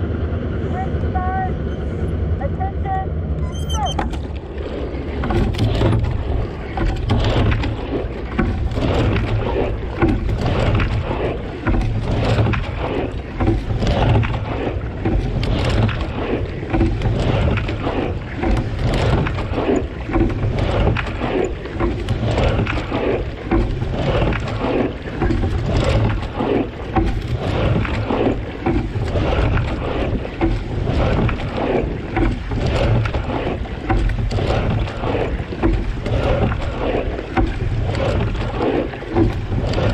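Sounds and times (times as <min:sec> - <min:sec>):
water rushing along hull: 0:00.0 - 0:39.9
oar blades splashing: 0:03.6 - 0:39.9.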